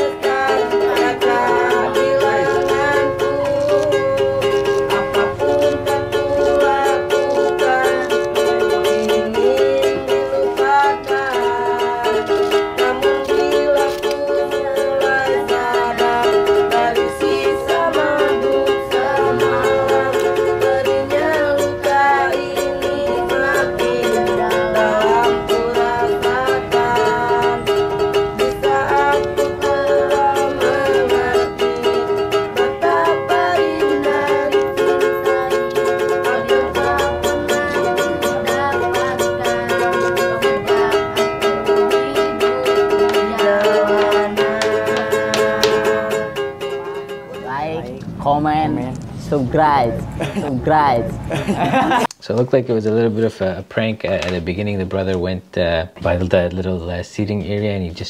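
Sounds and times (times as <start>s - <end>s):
ukulele strumming: 0.0s - 52.1s, 54.0s - 55.3s, 55.9s - 57.6s.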